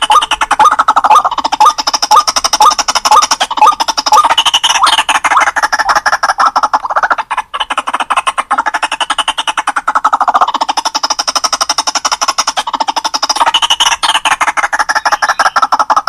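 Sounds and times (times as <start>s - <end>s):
bird calling harsh repeated notes: 0.0s - 16.0s.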